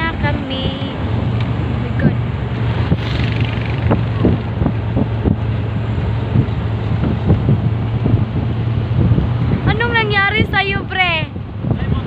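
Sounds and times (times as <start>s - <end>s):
vehicle engine hum: 0.0s - 12.0s
wind buffeting microphone: 0.0s - 12.0s.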